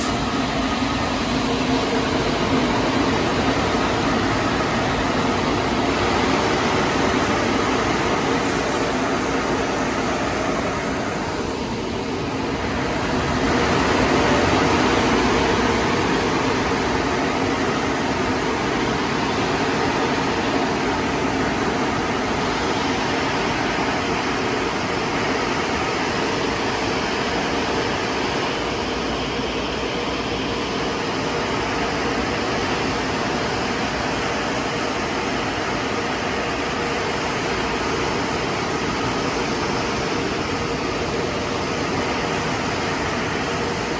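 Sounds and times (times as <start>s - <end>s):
air dryer blowers rushing: 0.0s - 43.9s.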